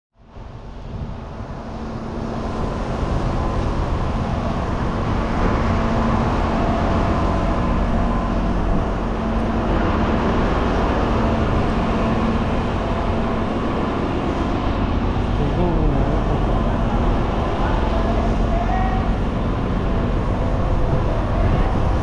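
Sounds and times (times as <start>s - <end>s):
faint constant hum: 0.2s - 22.0s
industrial rumble: 0.2s - 22.0s.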